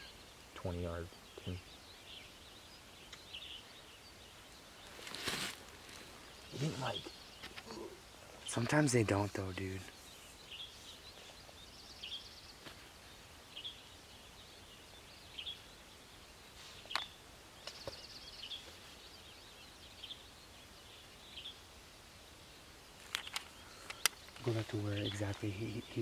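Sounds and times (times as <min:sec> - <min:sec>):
songbird chirps: 0:00.0 - 0:26.0.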